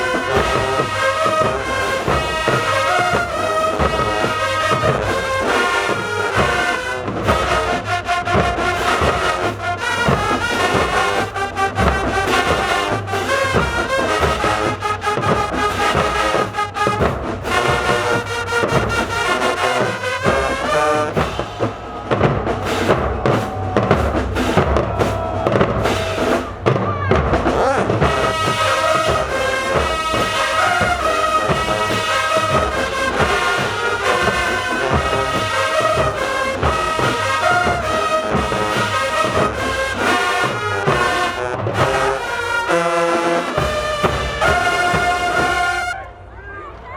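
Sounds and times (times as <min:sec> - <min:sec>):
drumline beat: 0:00.0 - 0:46.1
marching band brass: 0:00.0 - 0:46.9.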